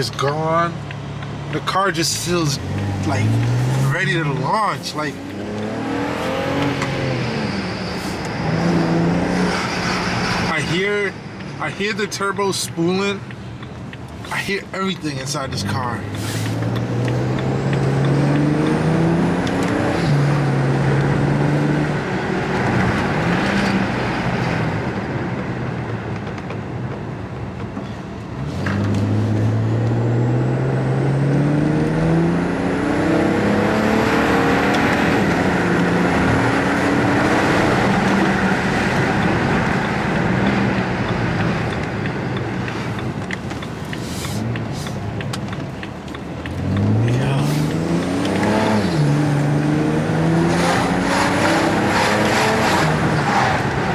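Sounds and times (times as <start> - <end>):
car engine accelerating from cabin: 0.0 - 10.9, 14.1 - 25.1, 28.2 - 53.9.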